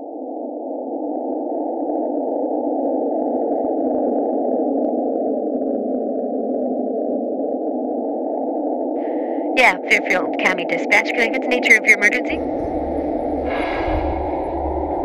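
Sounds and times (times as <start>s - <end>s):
grainy ominous drone: 0.1s - 15.0s.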